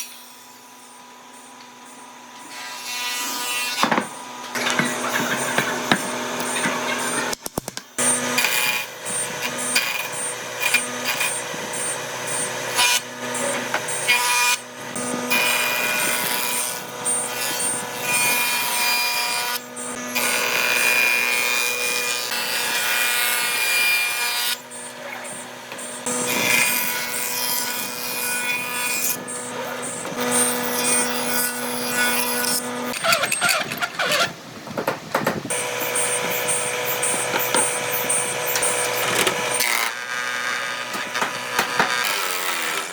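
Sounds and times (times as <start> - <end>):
power tool cutting wood: 0.0 - 7.4, 8.0 - 34.4, 35.5 - 42.9.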